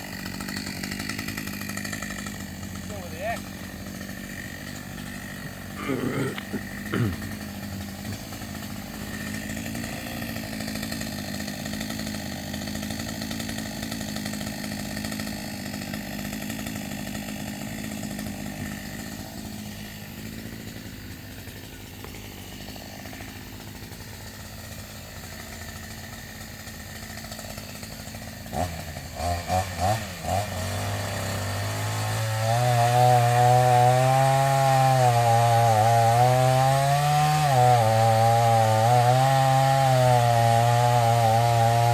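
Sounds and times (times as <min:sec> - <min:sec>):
chainsaw cutting wood: 0:00.0 - 0:41.9
chainsaw engine revving: 0:00.0 - 0:41.9.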